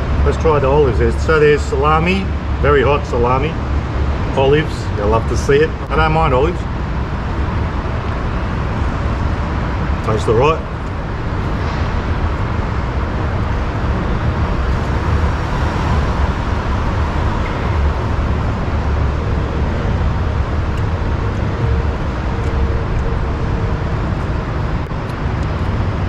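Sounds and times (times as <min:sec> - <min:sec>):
city traffic rumble: 0:00.0 - 0:26.0.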